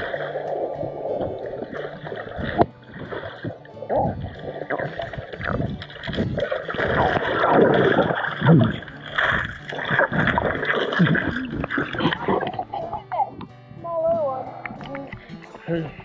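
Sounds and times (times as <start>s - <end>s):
underwater rumbling and bubbling: 0.0s - 15.2s
muffled water sloshing underwater: 0.0s - 15.4s.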